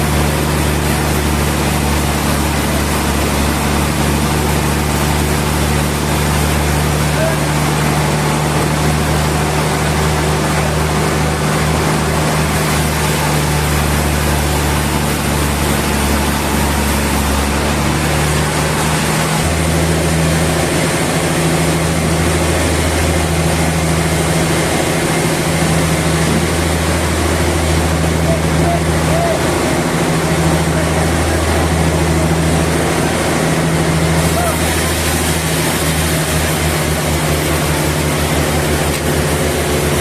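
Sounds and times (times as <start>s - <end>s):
sawmill machinery humming: 0.0s - 40.0s.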